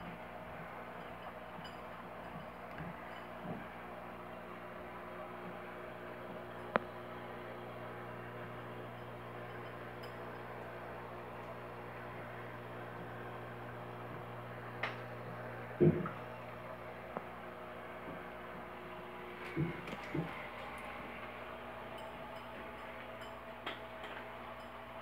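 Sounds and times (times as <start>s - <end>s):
aquarium filter motor hum: 0.0s - 25.0s.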